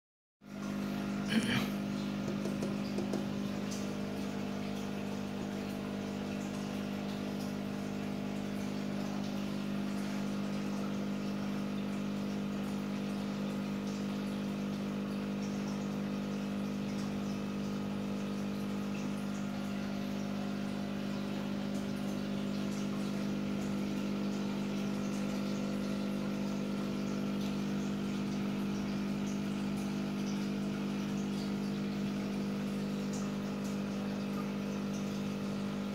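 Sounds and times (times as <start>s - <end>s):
aquarium pump humming: 0.4s - 35.9s
water bubbling and trickling: 0.4s - 35.9s.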